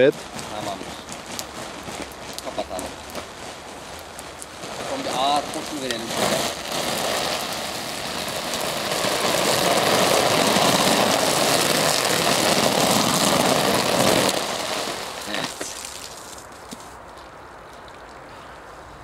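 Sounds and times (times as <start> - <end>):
hose water spraying on tent: 0.0 - 17.1.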